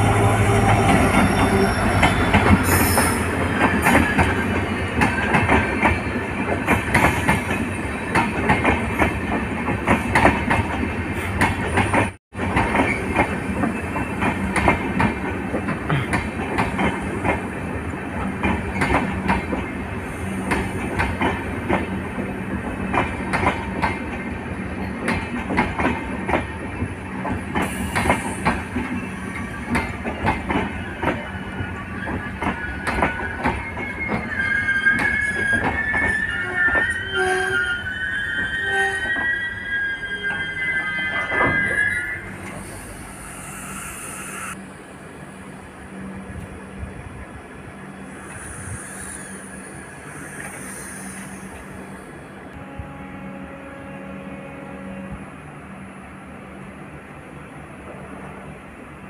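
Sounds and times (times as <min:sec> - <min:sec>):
train rail rumble: 0:00.0 - 0:58.9.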